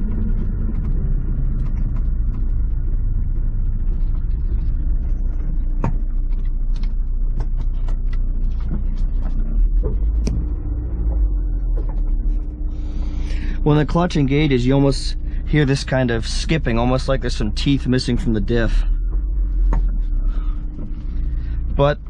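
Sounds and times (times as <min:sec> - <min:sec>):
car drivetrain and road rumble: 0:00.0 - 0:22.0.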